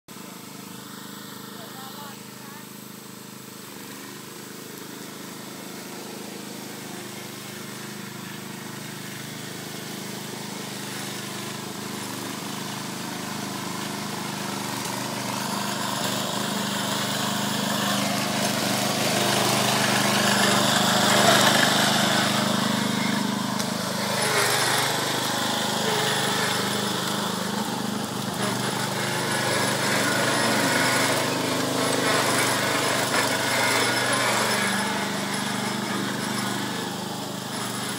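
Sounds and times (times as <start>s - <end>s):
lawn mower engine running: 0.1s - 37.9s.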